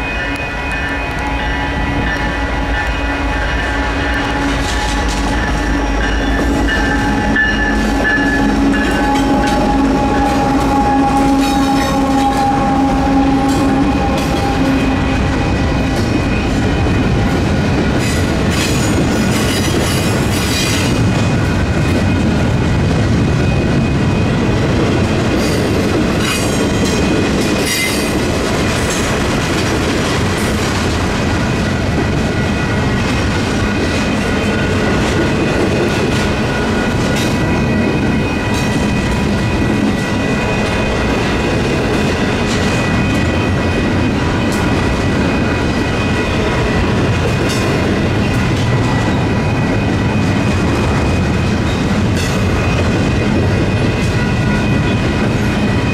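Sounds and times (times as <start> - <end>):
train wheel squeals: 0.0 - 30.8, 31.4 - 55.9
crossing bells ringing: 0.0 - 55.9
diesel locomotive engine: 0.0 - 55.9
freight cars rumbling on rails: 0.0 - 55.9.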